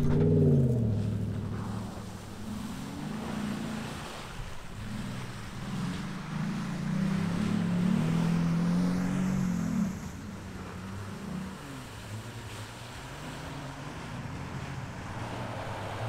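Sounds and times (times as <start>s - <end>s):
off-road vehicle engine: 0.0s - 16.0s.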